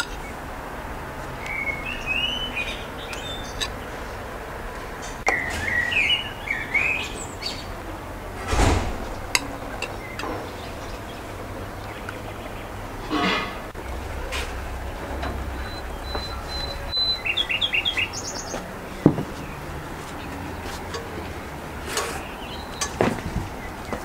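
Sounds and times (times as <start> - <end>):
small birds chirping: 0.0 - 13.1, 13.7 - 24.0.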